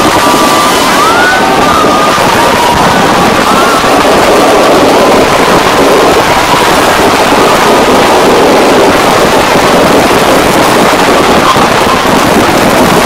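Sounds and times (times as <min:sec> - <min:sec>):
fireworks din: 0:00.0 - 0:13.0.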